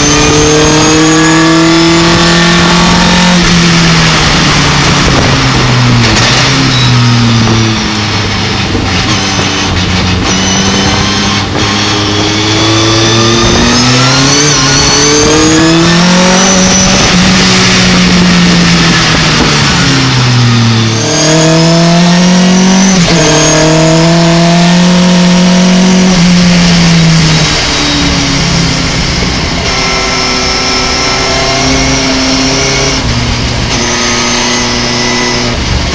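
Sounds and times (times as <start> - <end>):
truck engine revving: 0.0 - 35.9.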